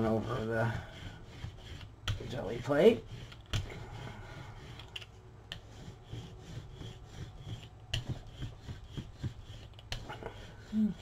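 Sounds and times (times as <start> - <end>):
rubber brayer rolling paint: 0.0 - 11.0.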